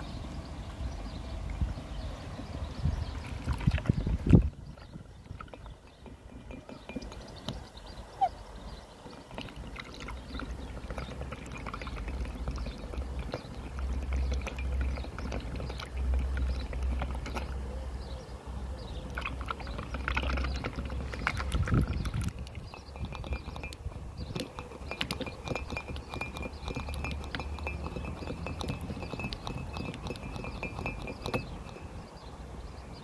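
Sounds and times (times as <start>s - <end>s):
bird slurping and sloshing tea: 3.0s - 17.7s, 18.9s - 32.3s.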